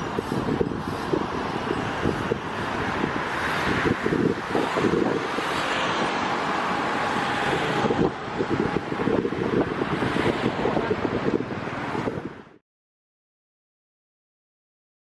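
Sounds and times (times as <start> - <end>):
road traffic passing: 0.0 - 12.6
wind buffeting microphone: 0.0 - 12.6.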